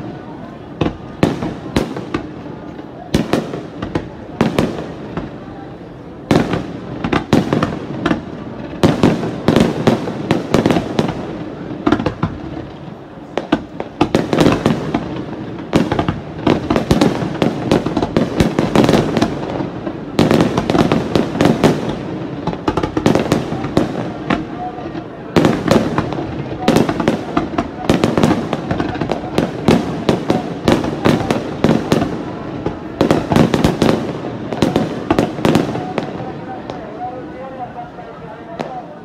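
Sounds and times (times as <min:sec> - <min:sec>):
firework crackling: 0:00.0 - 0:39.0.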